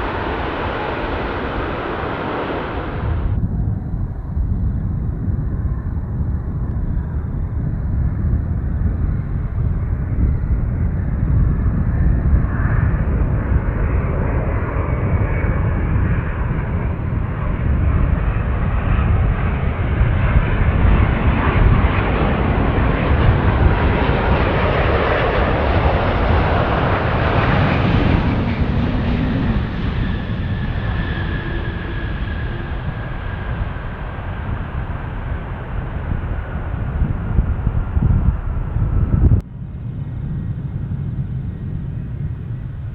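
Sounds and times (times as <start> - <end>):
jet airliner passing: 0.0 - 42.9.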